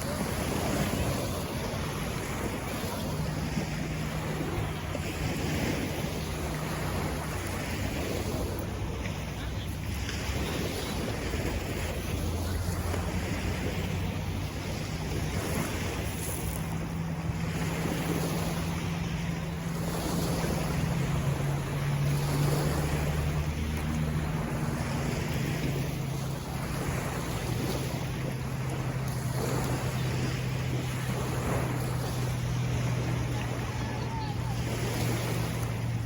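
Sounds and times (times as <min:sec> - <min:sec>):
low motor hum: 0:00.0 - 0:36.0
small waves washing ashore: 0:00.0 - 0:36.0
wind buffeting microphone: 0:00.0 - 0:36.0.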